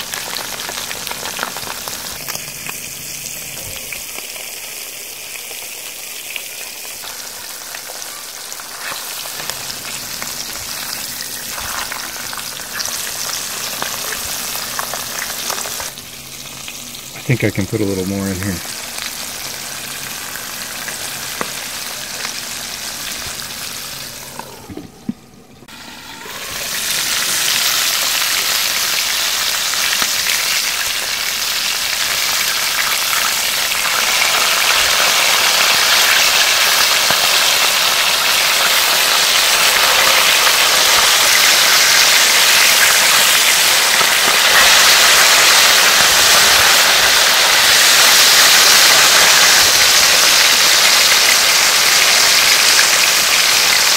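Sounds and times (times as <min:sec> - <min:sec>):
fish frying in hot oil: 0:00.0 - 0:24.2, 0:25.7 - 0:53.9.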